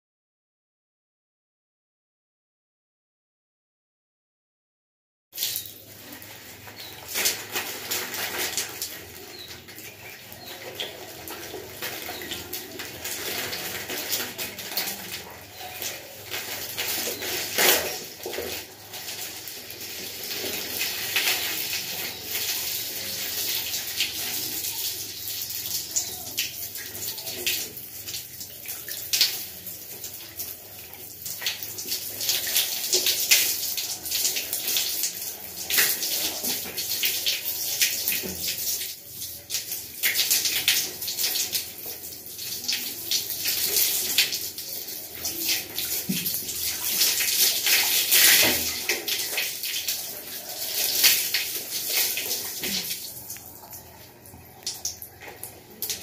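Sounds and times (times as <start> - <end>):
water pouring over hair: 5.4 - 56.0
water splashes and drips: 5.4 - 56.0.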